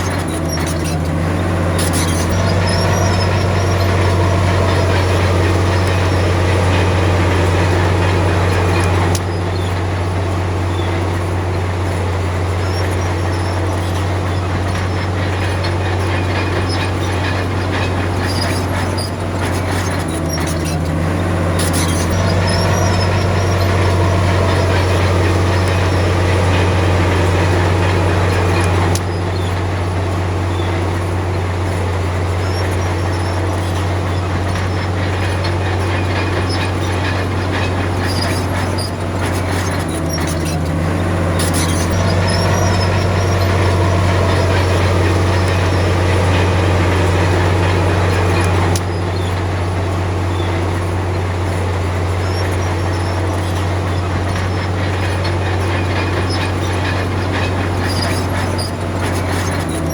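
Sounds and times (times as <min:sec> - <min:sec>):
bulldozer diesel engine running: 0:00.0 - 0:59.9
short high squeaks: 0:00.0 - 0:59.9.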